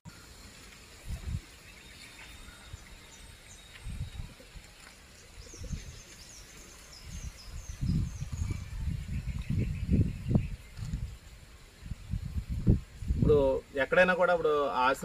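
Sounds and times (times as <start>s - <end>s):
small birds chirping: 0.1s - 12.7s.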